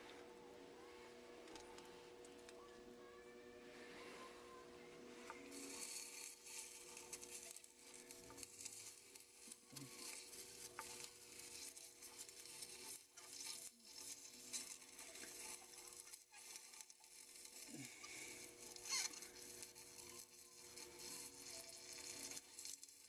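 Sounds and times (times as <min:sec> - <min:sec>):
dry ice sizzling on metal: 0:00.8 - 0:23.0.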